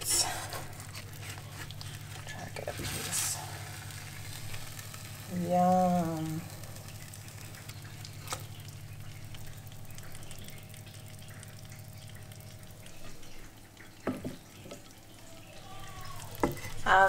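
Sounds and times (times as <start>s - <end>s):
cooking juices dripping and crackling: 0.0s - 17.0s
steady low hum: 0.0s - 17.0s.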